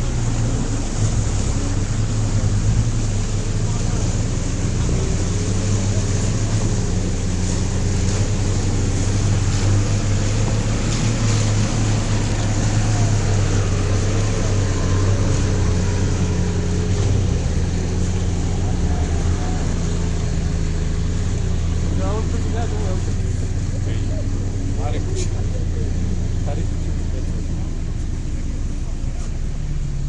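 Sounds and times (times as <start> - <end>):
off-road vehicle engine running: 0.0 - 30.0.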